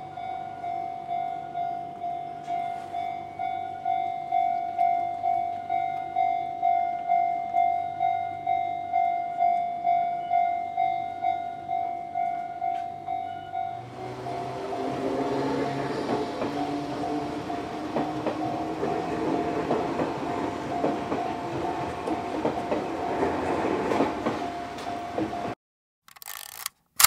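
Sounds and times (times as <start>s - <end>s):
level crossing warning bell: 0.0s - 23.4s.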